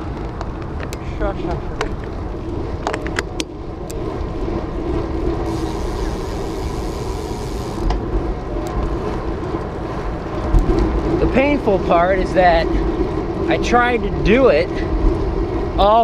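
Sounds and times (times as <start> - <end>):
bike tyres rolling on asphalt: 0.0 - 16.0
wind buffeting microphone: 0.0 - 16.0.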